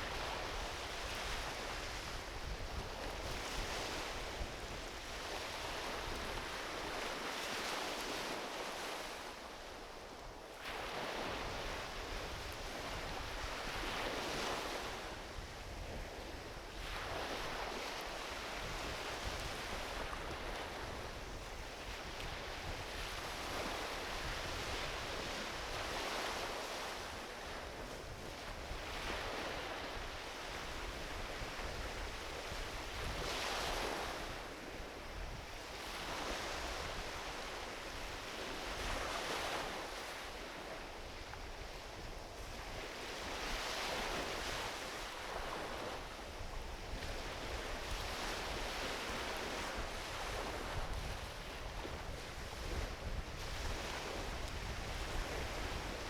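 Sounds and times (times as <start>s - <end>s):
waves washing onto beach: 0.0s - 56.0s.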